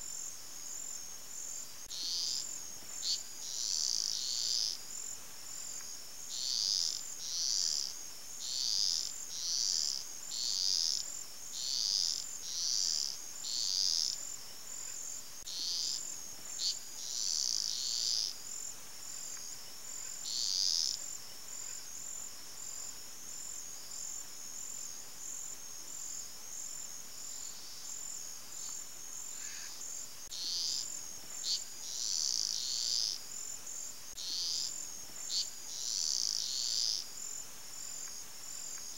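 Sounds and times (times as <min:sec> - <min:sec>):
high insect drone: 0:00.0 - 0:38.9
insects chirping: 0:00.0 - 0:38.9.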